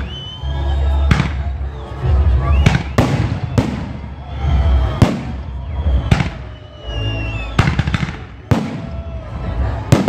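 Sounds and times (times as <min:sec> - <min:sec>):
fireworks bursting with sharp bangs: 0:01.0 - 0:06.8, 0:07.4 - 0:10.0.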